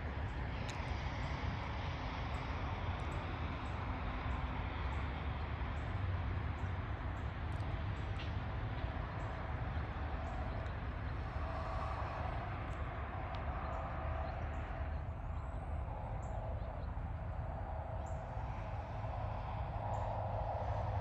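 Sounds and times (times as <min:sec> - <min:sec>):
distant engine rumble: 0:00.0 - 0:21.0.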